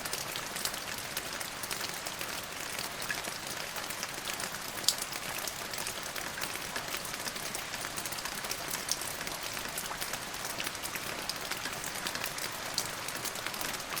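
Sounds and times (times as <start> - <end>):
rain drops spattering on a surface: 0.0 - 14.0.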